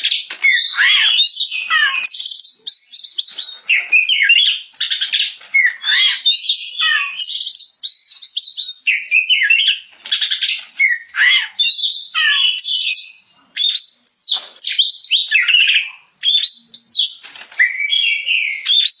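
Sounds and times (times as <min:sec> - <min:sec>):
bird singing varied whistles: 0:00.0 - 0:19.0.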